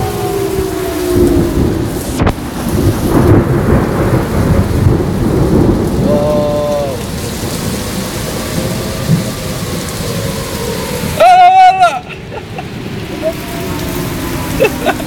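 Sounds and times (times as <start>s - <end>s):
heavy rain downpour: 0.0s - 15.0s
strong storm wind: 0.0s - 15.0s.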